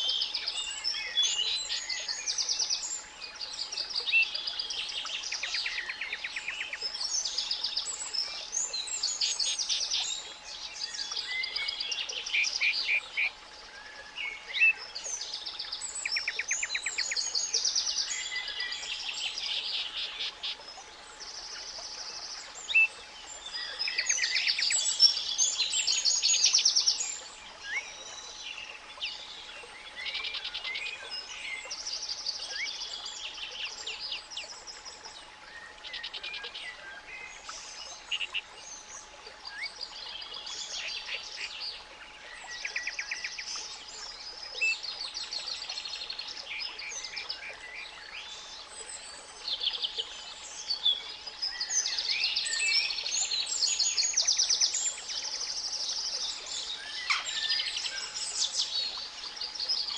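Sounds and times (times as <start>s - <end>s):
songbirds trilling and chirping: 0.0s - 59.9s.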